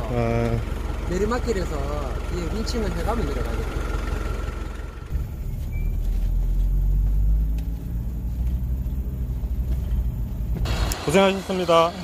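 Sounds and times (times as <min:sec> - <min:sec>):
vehicle engine deep drone: 0:00.0 - 0:12.0.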